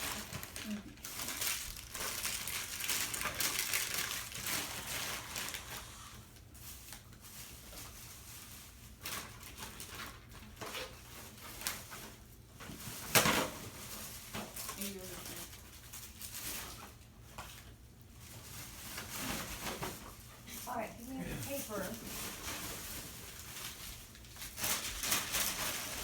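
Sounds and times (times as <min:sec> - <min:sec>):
wrapping paper rustling: 0:00.0 - 0:26.0.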